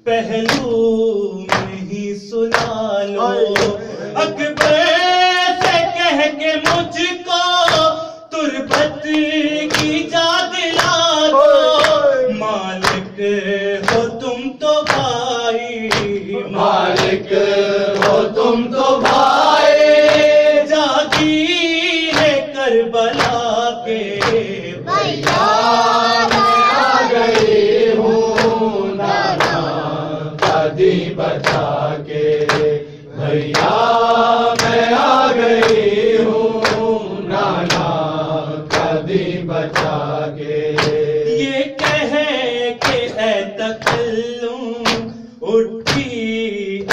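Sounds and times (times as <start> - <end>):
men chanting: 0.0 - 46.9.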